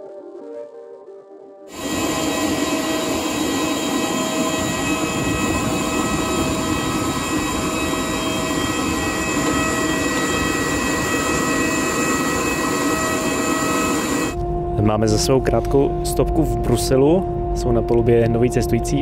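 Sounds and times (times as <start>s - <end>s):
jet turbines whining: 1.7s - 19.0s.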